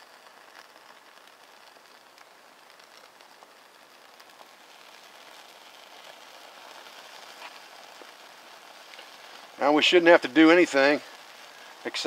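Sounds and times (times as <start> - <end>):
fire crackling softly: 0.0 - 12.0
flame hissing: 0.0 - 12.0.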